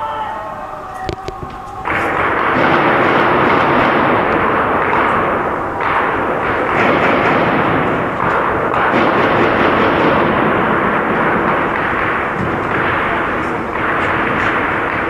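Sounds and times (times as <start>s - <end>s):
continuous heavy gunfire: 1.8s - 15.0s.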